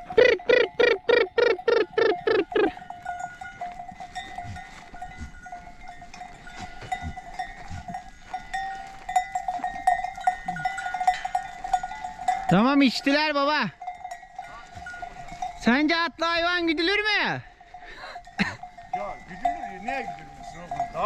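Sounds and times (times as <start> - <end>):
livestock bells clinking: 0.0 - 21.0.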